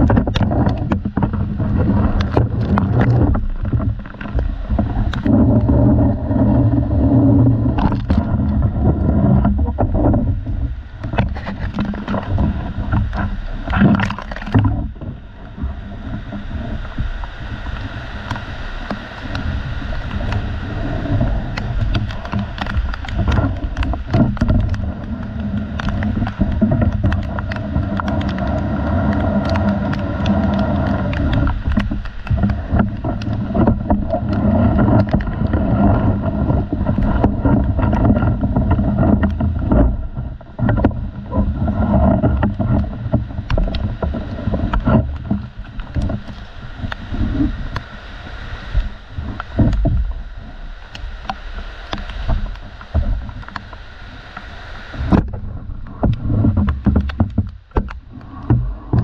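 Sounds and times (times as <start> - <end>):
raindrops tapping on camera: 0.0 - 59.0
wind and handling rumble: 0.0 - 59.0.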